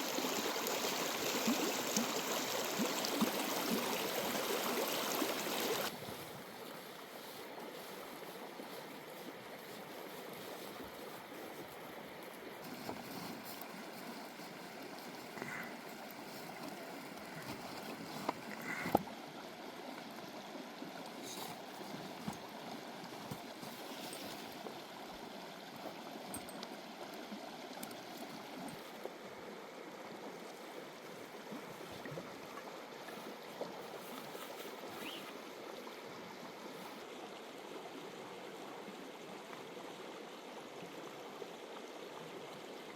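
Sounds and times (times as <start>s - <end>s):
light ticks and drips: 0.0s - 6.0s, 6.6s - 29.3s, 30.2s - 37.1s, 37.7s - 42.9s
water rushing: 0.0s - 39.4s.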